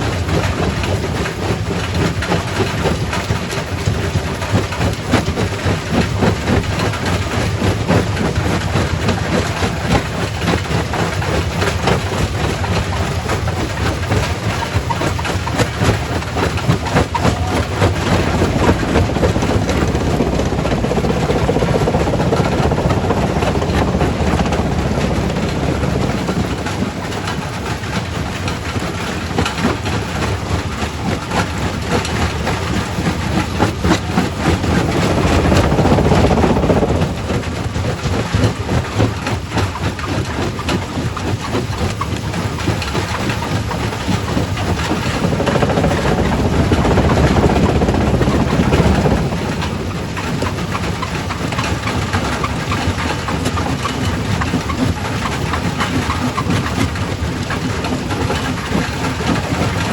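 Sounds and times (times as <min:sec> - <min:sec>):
rock crusher rumbling: 0:00.0 - 0:59.9.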